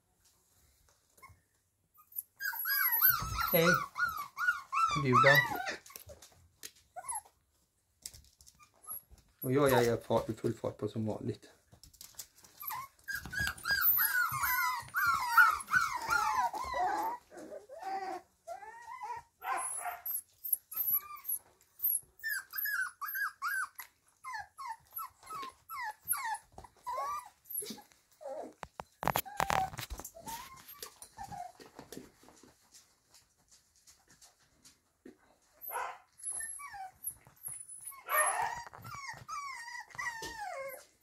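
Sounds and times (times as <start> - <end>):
puppies whining and yelping: 1.1 - 7.8, 8.4 - 9.8, 12.1 - 32.5, 35.6 - 41.0.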